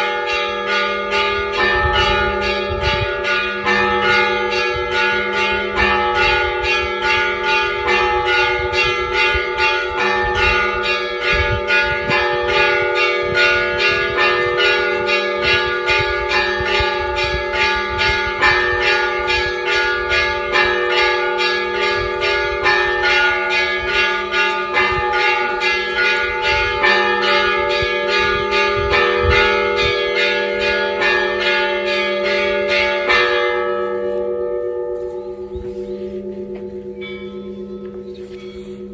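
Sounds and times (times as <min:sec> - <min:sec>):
church bells ringing rapidly: 0:00.0 - 0:38.9.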